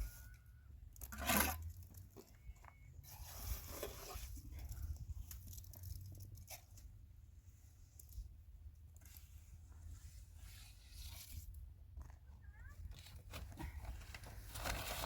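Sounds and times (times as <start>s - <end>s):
rustling and scraping handling: 1.0s - 15.0s.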